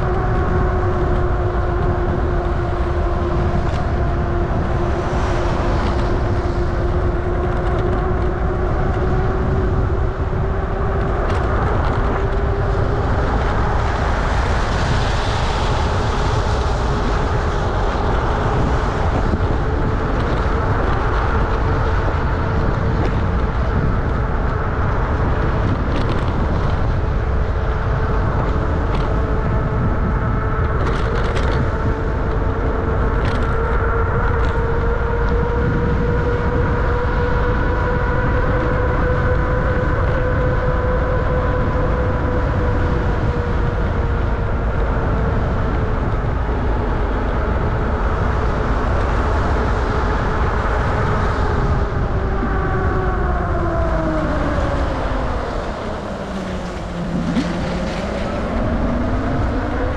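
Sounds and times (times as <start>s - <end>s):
steady rising whine: 0.0s - 48.0s, 48.6s - 59.9s
wind on microphone: 0.0s - 59.9s.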